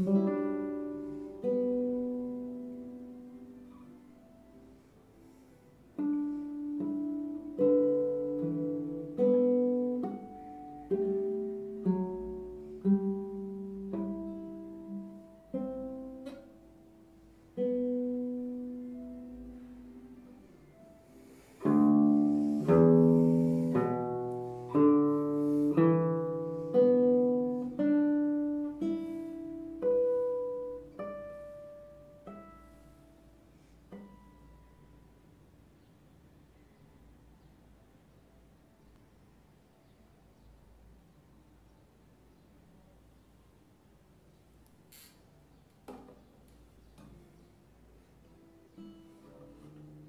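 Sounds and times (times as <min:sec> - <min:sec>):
classical guitar plucked: 0:00.0 - 0:36.0, 0:44.9 - 0:50.0.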